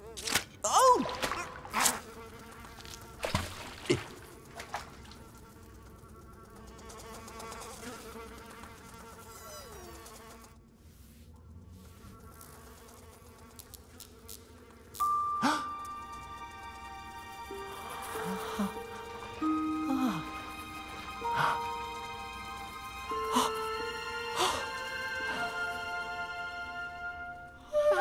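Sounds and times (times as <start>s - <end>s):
flies buzzing: 0.0s - 10.8s, 11.5s - 28.0s.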